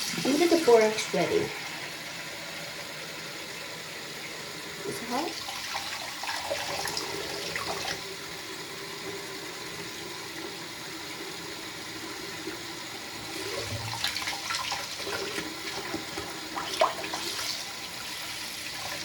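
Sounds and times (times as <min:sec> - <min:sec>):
water tap running: 0:00.0 - 0:19.0.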